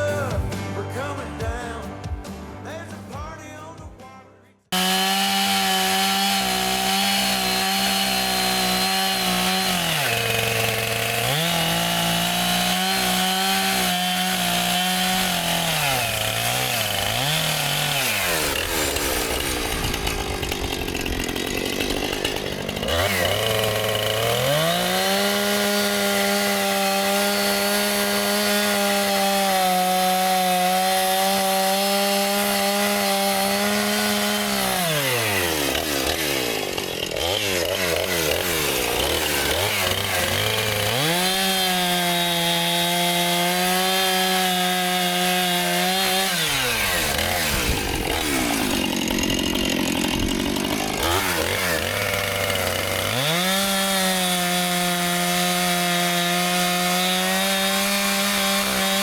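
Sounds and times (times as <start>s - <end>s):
chainsaw cutting timber: 4.7s - 59.0s.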